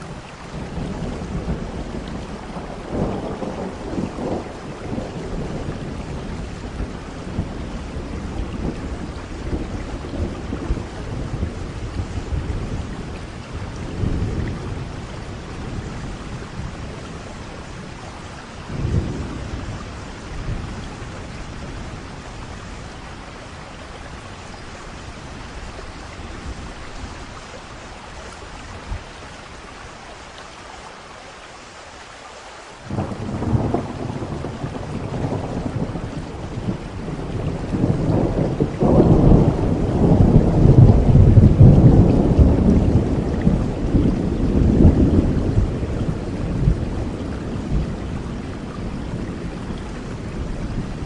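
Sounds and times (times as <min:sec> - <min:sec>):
thunder rumbling: 0:00.0 - 0:29.2, 0:32.9 - 0:51.0
steady rain: 0:00.0 - 0:51.0.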